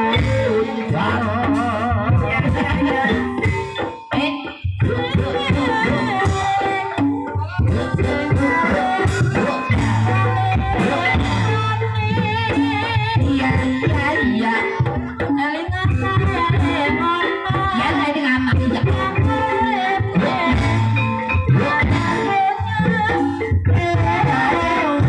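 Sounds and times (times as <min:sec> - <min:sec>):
drums beating: 0:00.0 - 0:25.0
person singing with wavering voice: 0:00.0 - 0:25.0.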